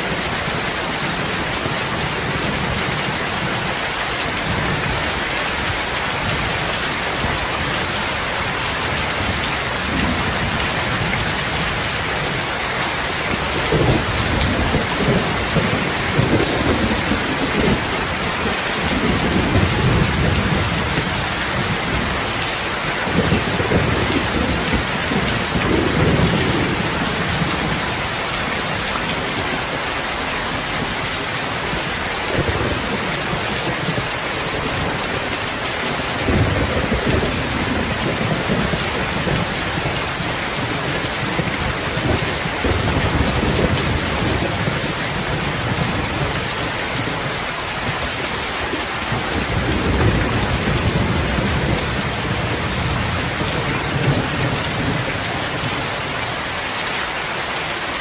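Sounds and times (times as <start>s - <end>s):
heavy rain: 0.0s - 58.0s
thunder rumbling: 8.8s - 29.7s, 30.5s - 56.0s.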